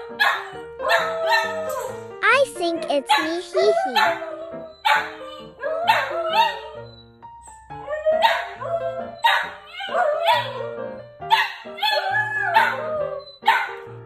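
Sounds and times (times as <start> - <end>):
background music: 0.0 - 14.0
puppy howling: 0.2 - 2.0, 3.1 - 6.9, 7.8 - 13.8.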